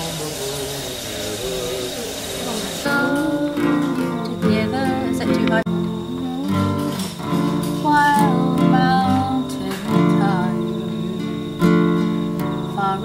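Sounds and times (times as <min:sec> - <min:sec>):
man singing: 0:00.0 - 0:06.8, 0:07.9 - 0:11.8
acoustic guitar chords: 0:00.0 - 0:13.0.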